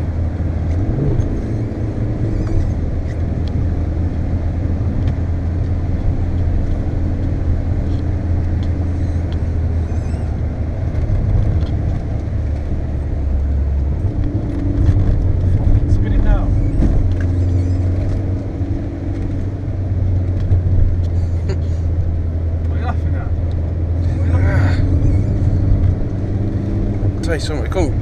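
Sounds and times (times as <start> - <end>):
car engine drone: 0.0 - 28.0
road noise: 0.0 - 28.0.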